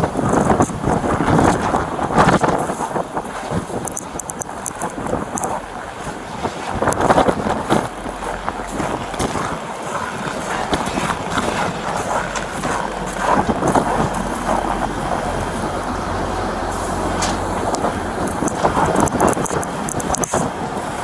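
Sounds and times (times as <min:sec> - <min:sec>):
steady low hum: 0:00.0 - 0:21.0
wind buffeting microphone: 0:00.0 - 0:21.0
gear rustling: 0:00.2 - 0:20.5
footsteps crunching in snow: 0:00.4 - 0:19.5.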